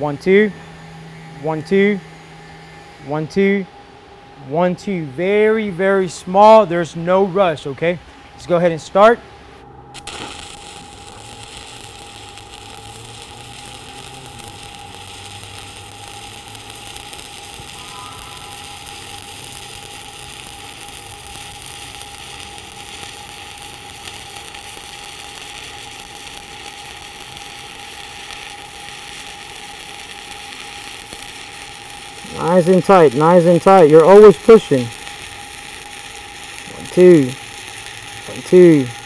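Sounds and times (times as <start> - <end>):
welding arc crackling: 0.0 - 3.6, 9.9 - 39.0.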